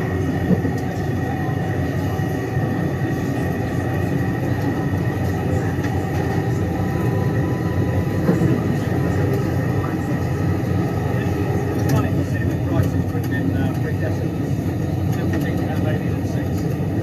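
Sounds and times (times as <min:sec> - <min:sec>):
underground train rumbling: 0:00.0 - 0:17.0.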